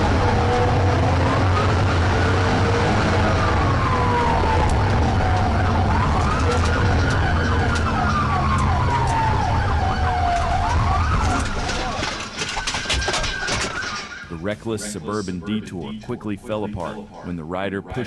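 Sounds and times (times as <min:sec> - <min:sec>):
police siren wailing: 0:00.0 - 0:15.2
engine and road rumble: 0:00.0 - 0:17.6.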